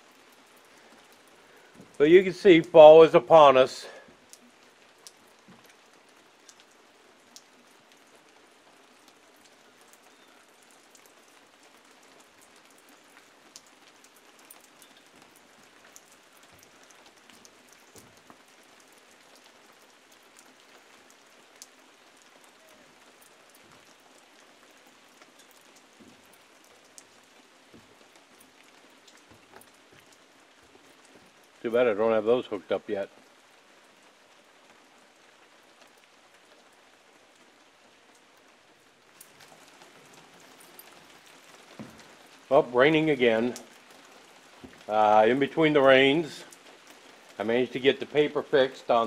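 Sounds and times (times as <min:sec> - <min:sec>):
light rain falling: 0:00.0 - 0:49.0
raindrops ticking: 0:00.0 - 0:49.0.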